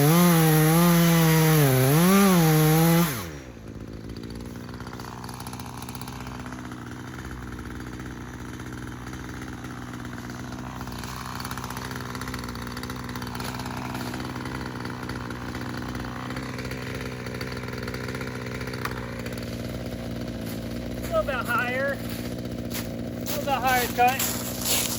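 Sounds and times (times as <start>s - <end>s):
chainsaw engine idling: 0.0s - 24.9s.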